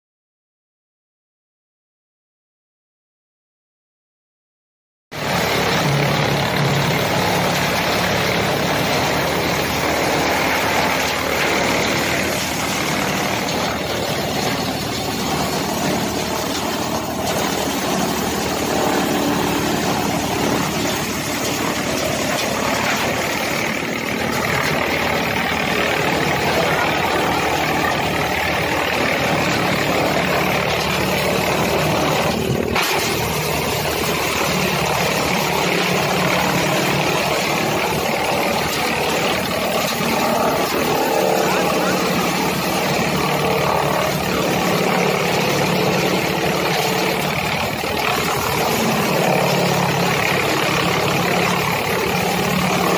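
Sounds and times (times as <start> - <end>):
chaff cutter machine running: 5.1 - 52.9
tractor engine: 5.1 - 52.9.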